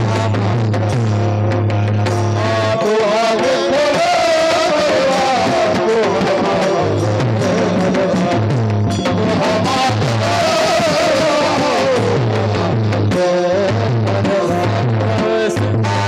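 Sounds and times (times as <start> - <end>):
wavering melody line: 0.0 - 14.0
drum accompaniment: 0.0 - 16.0.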